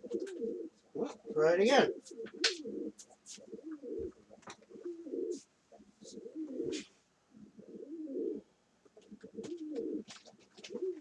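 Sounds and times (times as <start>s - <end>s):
pigeon cooing: 0.0s - 11.0s.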